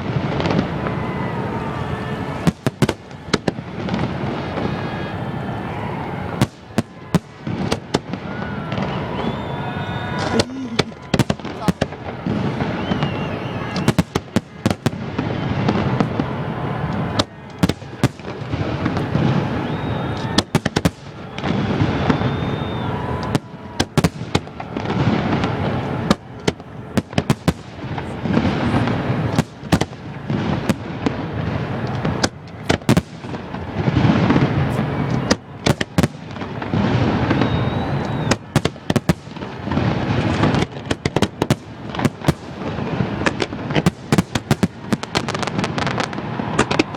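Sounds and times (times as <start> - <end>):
fireworks cracks and bangs: 0.0 - 46.9.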